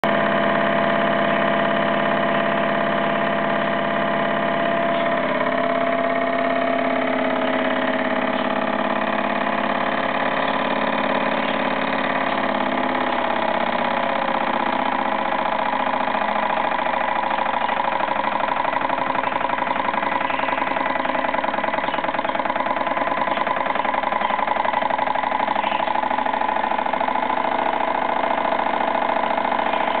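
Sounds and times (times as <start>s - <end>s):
steam engine whirring: 0.1s - 30.0s.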